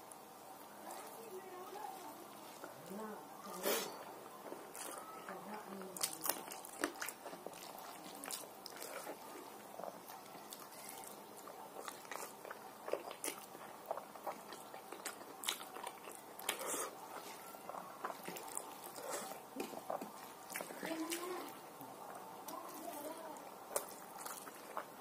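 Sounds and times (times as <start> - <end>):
chewing and mouth noises: 3.9 - 25.0.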